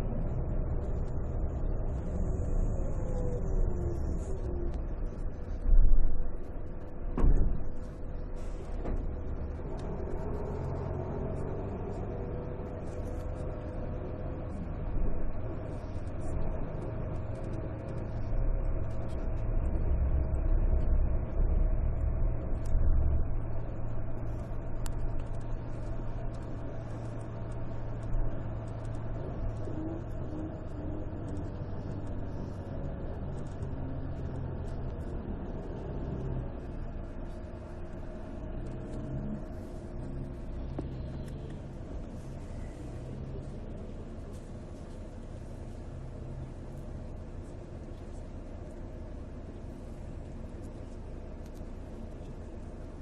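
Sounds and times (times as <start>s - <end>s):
diesel engine rumbling: 0.0s - 53.0s.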